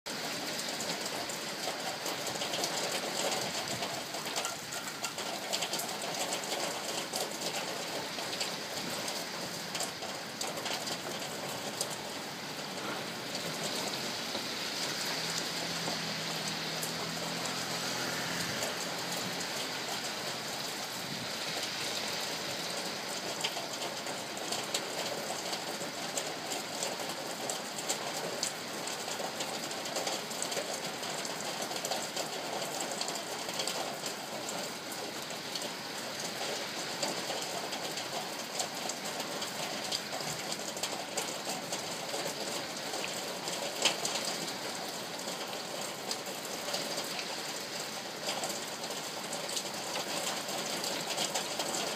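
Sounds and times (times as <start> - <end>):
rain on a tin roof: 0.1 - 51.9.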